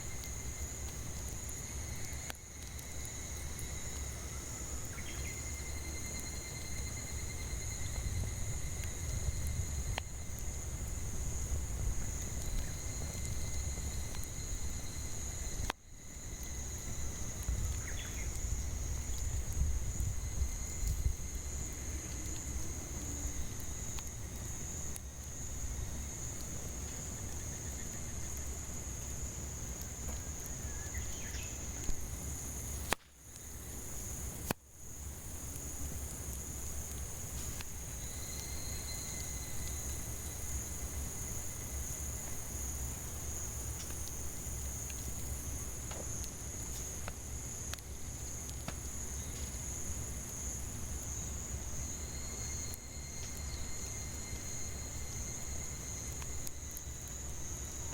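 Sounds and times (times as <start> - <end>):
campfire crackling pops: 0.0 - 57.9
cicadas buzzing: 0.0 - 57.9.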